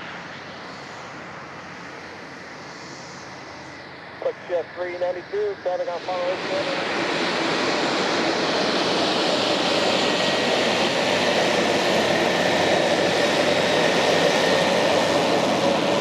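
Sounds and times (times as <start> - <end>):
jet engines rushing with whine: 0.0 - 16.0.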